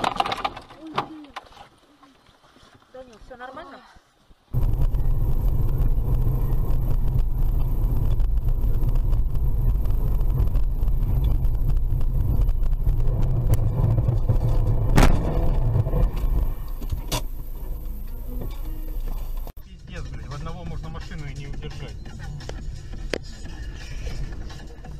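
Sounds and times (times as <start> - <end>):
car engine and tyres rumbling: 4.5 - 24.9.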